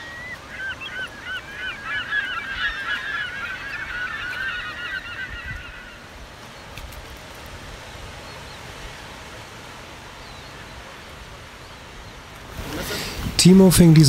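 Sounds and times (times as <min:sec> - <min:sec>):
seabirds calling: 0:00.0 - 0:14.0.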